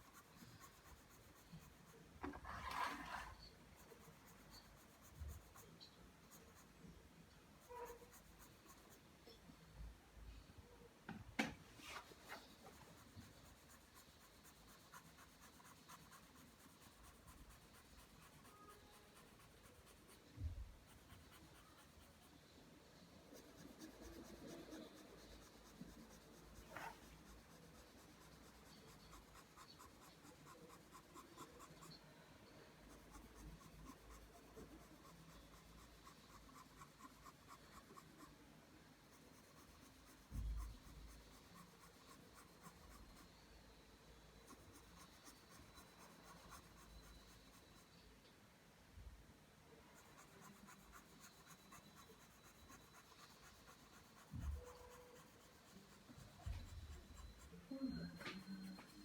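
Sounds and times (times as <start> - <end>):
pencil scratching on paper: 0.0 - 6.9, 7.5 - 9.0, 11.8 - 38.4, 39.0 - 43.8, 44.4 - 48.0, 49.8 - 59.0.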